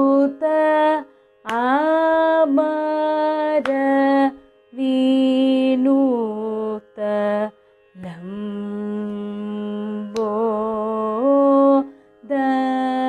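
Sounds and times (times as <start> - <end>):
woman singing long held notes: 0.0 - 13.0.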